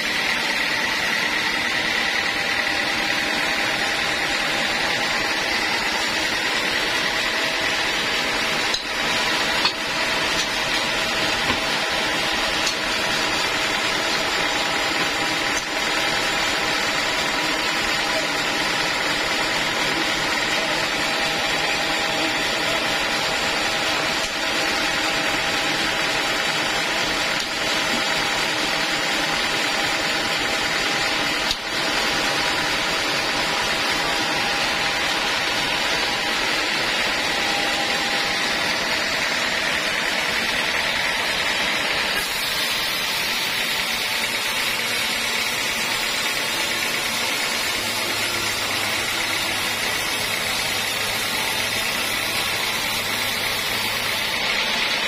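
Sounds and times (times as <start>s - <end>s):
band saw machine whine: 0.0s - 55.0s.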